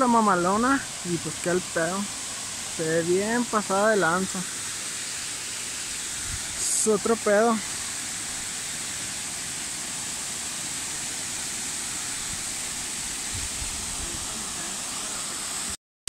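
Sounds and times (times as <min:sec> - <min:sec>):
waterfall rushing: 0:00.0 - 0:15.8.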